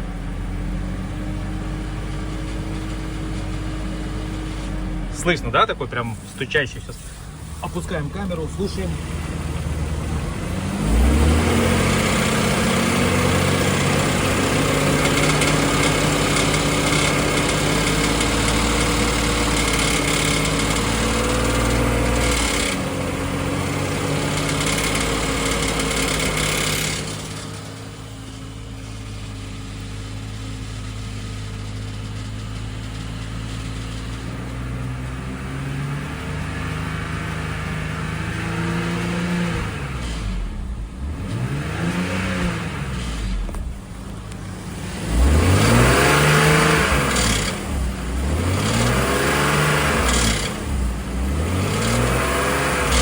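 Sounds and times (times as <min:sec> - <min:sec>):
car engine at raised revs: 0:00.0 - 0:53.0.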